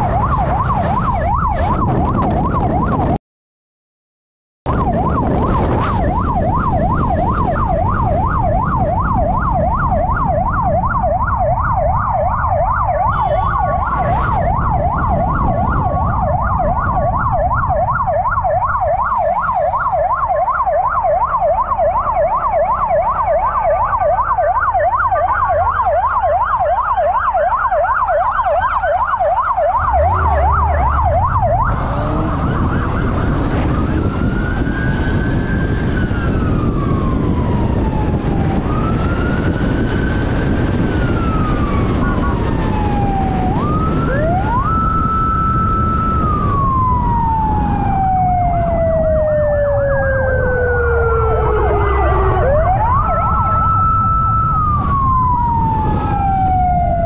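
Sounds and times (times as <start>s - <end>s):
motorcycle engine noise: 0.0s - 3.2s, 4.7s - 24.9s, 29.3s - 57.0s
motorcycle siren yelping: 0.0s - 3.2s, 4.7s - 57.0s
siren wail: 0.0s - 3.2s, 4.7s - 57.0s
wind rush: 0.0s - 3.2s, 4.7s - 20.6s, 29.7s - 57.0s.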